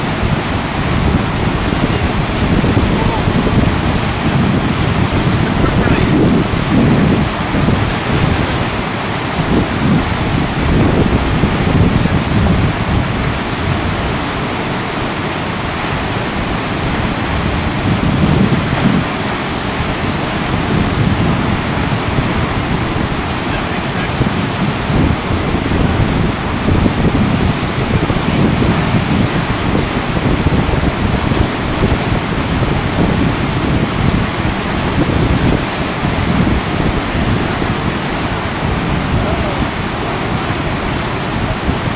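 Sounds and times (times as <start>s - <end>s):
whitewater river rapid rushing: 0.0s - 41.9s.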